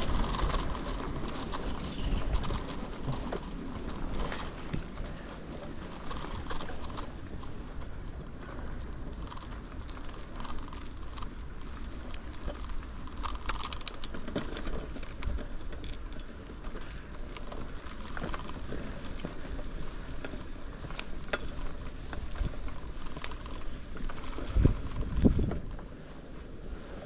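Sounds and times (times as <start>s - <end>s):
bicycle tyres rolling rumble: 0.0s - 27.0s
bike clicks and rattles: 0.0s - 27.0s.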